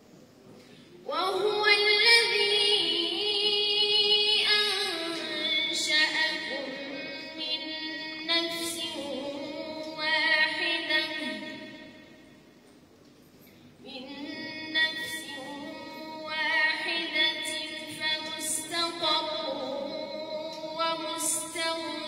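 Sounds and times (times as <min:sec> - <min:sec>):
woman chanting through loudspeakers: 0:01.0 - 0:12.2, 0:13.8 - 0:22.0.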